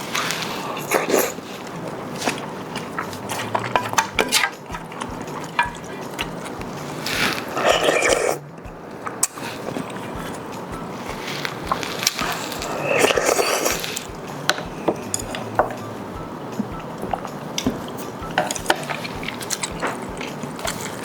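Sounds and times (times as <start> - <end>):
chewing and mouth noises: 0.0 - 21.0.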